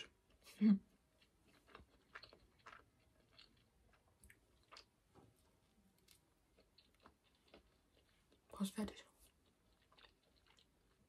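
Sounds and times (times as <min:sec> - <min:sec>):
faint chewing of pastry: 0:00.0 - 0:11.0.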